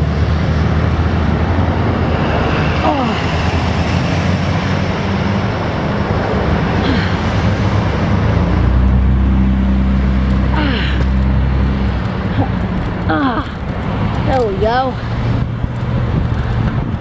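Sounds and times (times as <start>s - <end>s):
cars passing: 0.0s - 17.0s
heavy low rumble: 0.0s - 17.0s
traffic noise: 0.0s - 17.0s.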